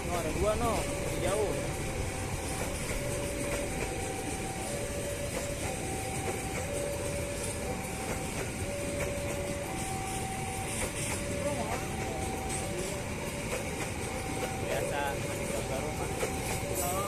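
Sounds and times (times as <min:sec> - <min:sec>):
electronic two-tone warning signal: 0:00.0 - 0:17.0
train rumbling past: 0:00.0 - 0:17.0
train wheel clatter: 0:00.0 - 0:17.0.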